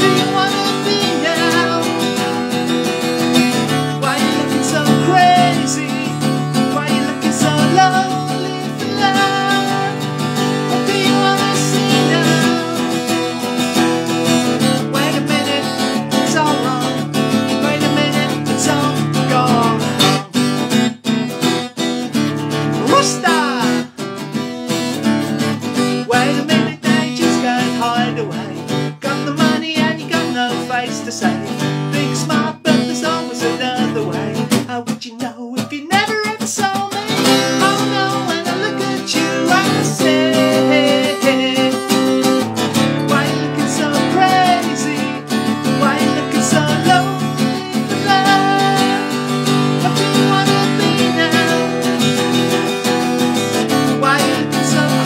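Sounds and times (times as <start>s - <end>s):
acoustic guitar strumming: 0.0s - 55.0s
man singing: 0.0s - 55.0s.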